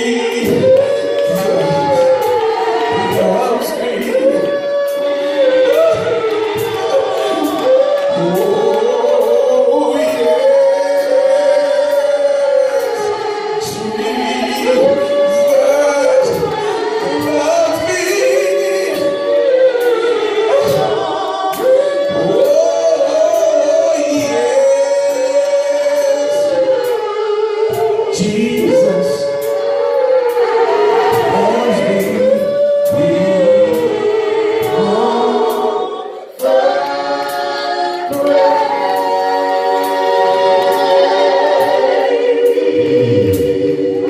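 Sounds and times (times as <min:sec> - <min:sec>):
gospel choir singing: 0:00.0 - 0:44.0
light steady beat: 0:00.0 - 0:44.0.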